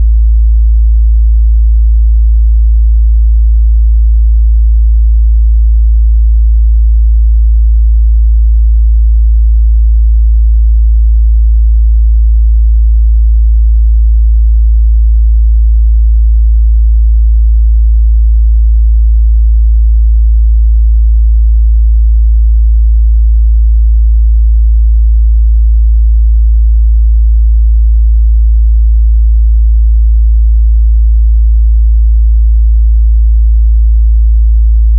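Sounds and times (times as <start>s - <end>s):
low sine-wave test tone: 0.0s - 34.9s.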